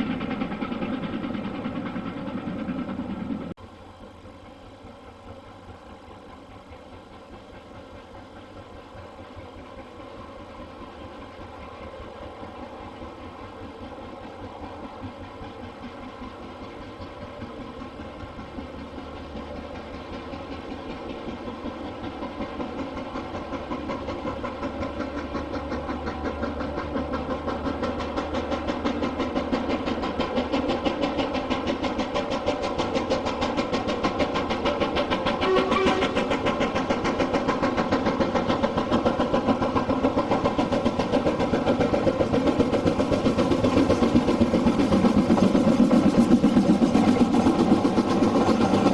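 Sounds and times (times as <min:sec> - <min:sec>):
steam locomotive exhaust beats: 0:00.0 - 0:48.9.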